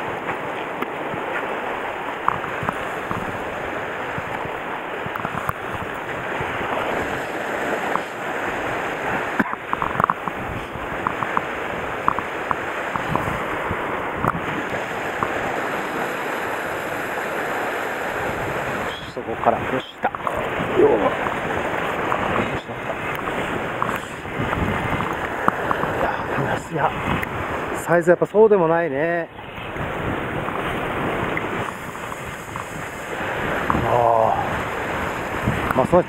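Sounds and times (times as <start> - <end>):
sea surf on rocks: 0.0 - 36.0
wind: 0.0 - 36.0.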